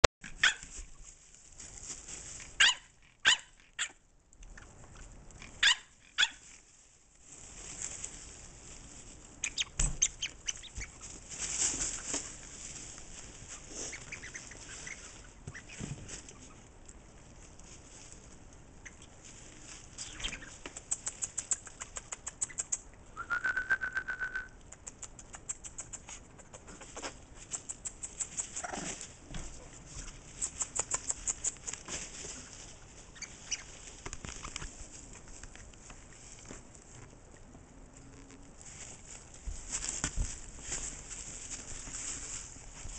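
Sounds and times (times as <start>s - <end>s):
paws scrabbling in wood shavings: 0.2s - 22.9s, 24.8s - 42.9s.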